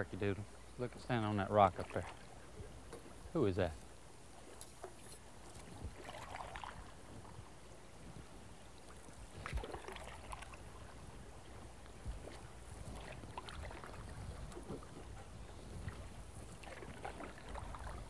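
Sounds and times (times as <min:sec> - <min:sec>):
shallow water rippling over rocks: 0:00.2 - 0:18.0.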